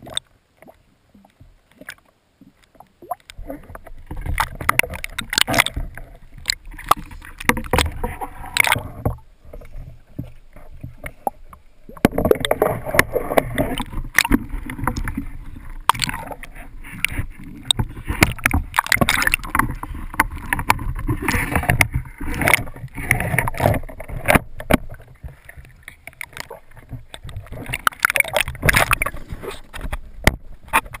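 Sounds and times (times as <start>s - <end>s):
water sloshing and gurgling: 0.0s - 31.0s.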